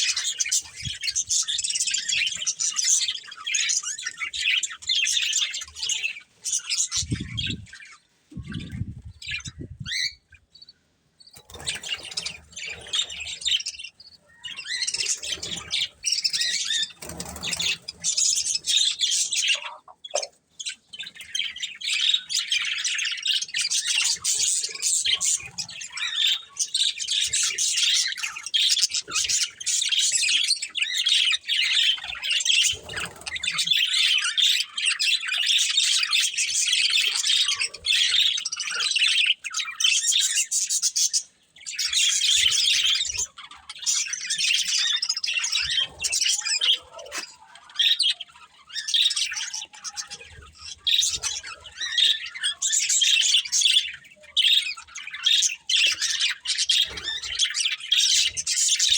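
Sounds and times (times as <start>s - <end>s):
budgerigars chirping: 0.0s - 58.9s.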